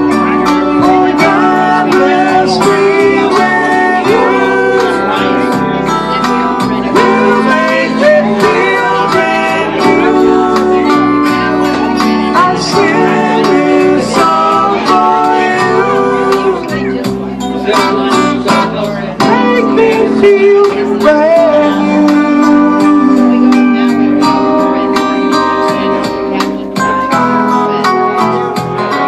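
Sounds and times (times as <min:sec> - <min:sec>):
man singing: 0:00.0 - 0:26.5
acoustic guitar strummed and picked: 0:00.0 - 0:29.0.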